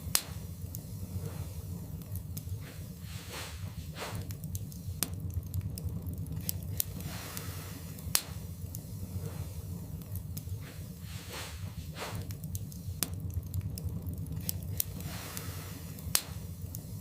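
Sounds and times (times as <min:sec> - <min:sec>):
fireplace flames rumbling: 0:00.0 - 0:17.0
logs crackling and popping: 0:00.0 - 0:17.0.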